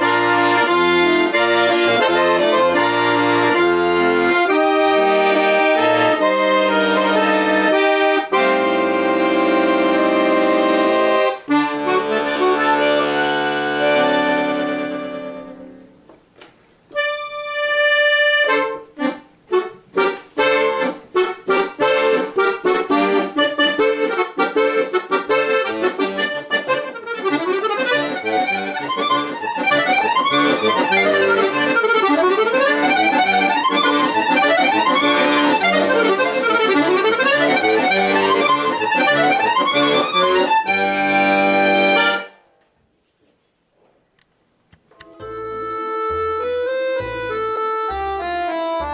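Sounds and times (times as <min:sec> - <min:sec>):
solo accordion folk tune: 0:00.0 - 0:42.5, 0:44.9 - 0:48.9.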